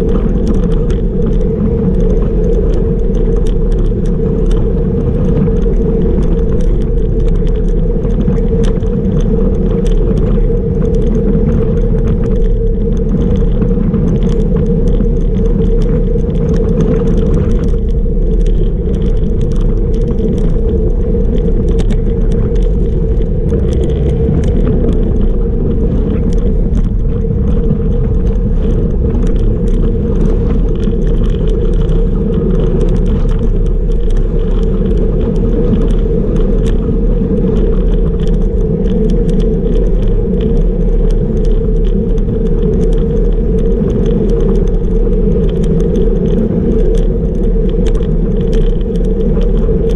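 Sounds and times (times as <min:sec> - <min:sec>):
bicycle tyres rolling on asphalt: 0:00.0 - 0:49.9
wind rush on microphone: 0:00.0 - 0:49.9.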